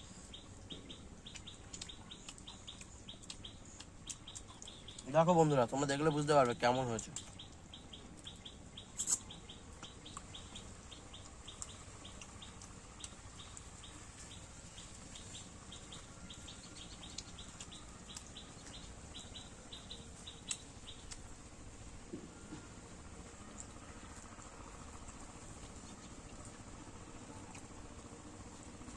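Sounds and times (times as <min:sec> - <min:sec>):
small bird chirping: 0:00.0 - 0:28.9.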